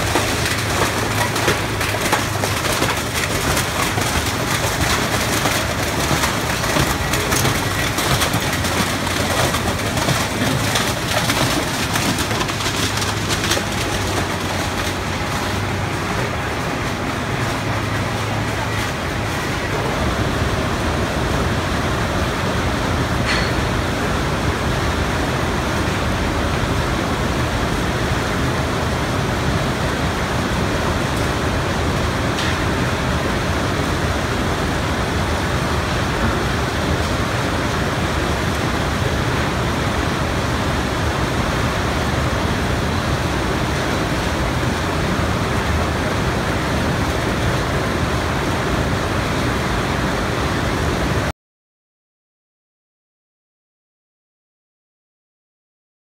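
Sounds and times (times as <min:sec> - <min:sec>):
conveyor belts and sorting machinery: 0:00.0 - 0:51.3.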